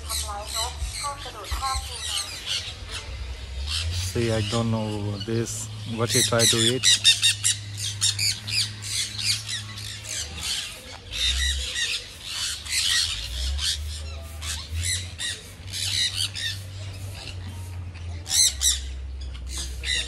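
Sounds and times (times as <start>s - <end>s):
parrots screeching: 0.0s - 4.6s, 5.4s - 17.5s, 18.1s - 20.0s.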